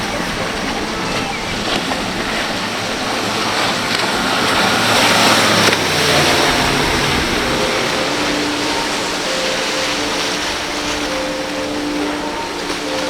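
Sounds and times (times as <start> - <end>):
motorboat engine running: 0.0 - 13.0
rushing water and spray: 0.0 - 13.0.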